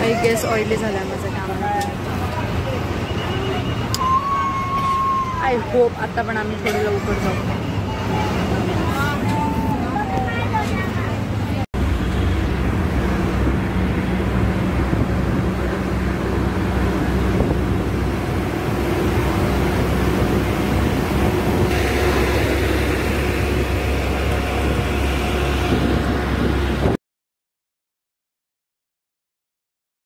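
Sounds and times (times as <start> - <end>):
bus engine drone: 0.0 - 27.0
road and wind noise: 0.0 - 27.0.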